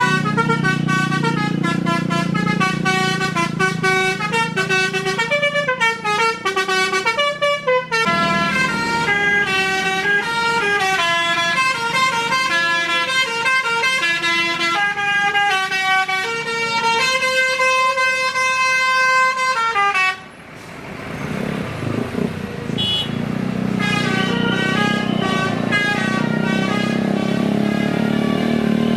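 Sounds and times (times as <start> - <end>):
bus horn playing a tune: 0.0 - 20.4, 22.7 - 28.9
engine and road noise: 0.0 - 28.9.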